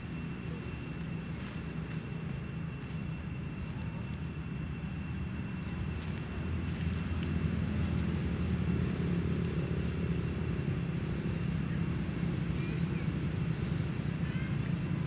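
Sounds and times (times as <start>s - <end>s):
faint high whine: 0.0s - 15.0s
low steady rumble: 0.0s - 15.0s.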